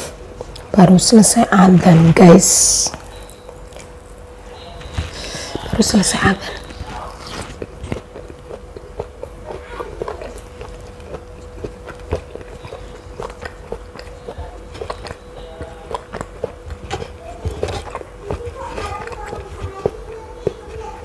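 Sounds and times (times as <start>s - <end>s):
faint steady hum: 0.0s - 21.0s
crunchy chewing: 2.9s - 21.0s.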